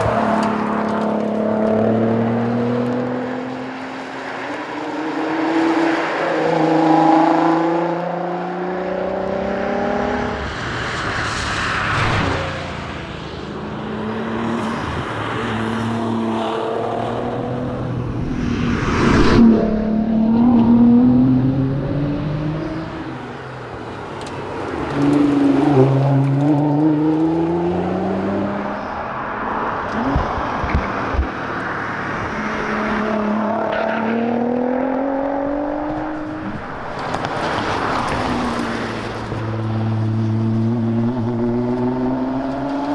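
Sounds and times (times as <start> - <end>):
car engine accelerating hard: 0.0 - 42.9.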